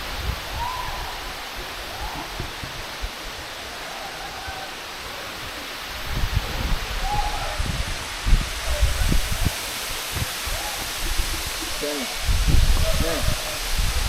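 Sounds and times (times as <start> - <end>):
waterfall roaring into pool: 0.0 - 14.0.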